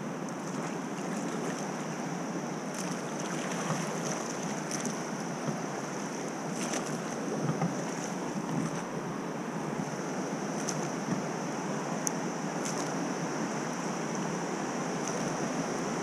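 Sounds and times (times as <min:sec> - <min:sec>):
river water rushing: 0:00.0 - 0:16.0
water splashes: 0:00.3 - 0:16.0.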